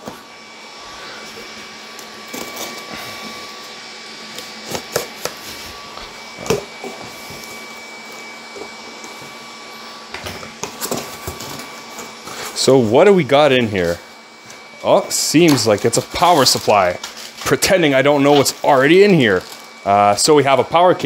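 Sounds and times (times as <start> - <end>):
computer fans whirring: 0.0 - 21.0.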